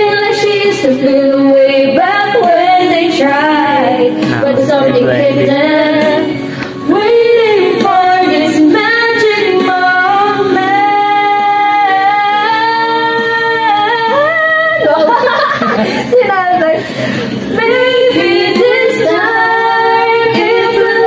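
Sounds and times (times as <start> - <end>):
woman singing: 0.0 - 16.8, 17.5 - 21.0.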